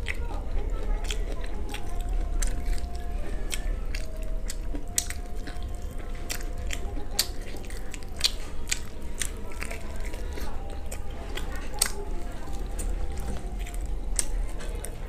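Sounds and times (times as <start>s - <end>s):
crunchy chewing of fried chicken: 0.0s - 15.0s.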